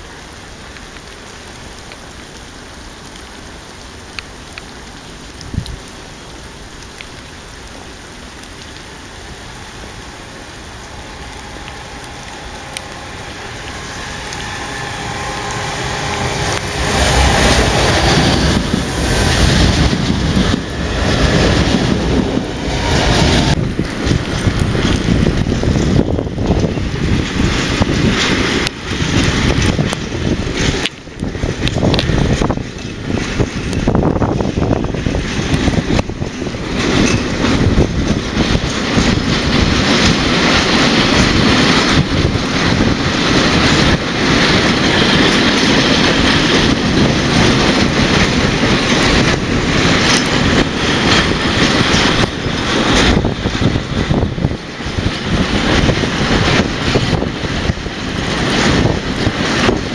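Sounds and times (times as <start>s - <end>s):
freight train wagons rolling: 0.0s - 59.9s
wind buffeting microphone: 4.1s - 59.9s.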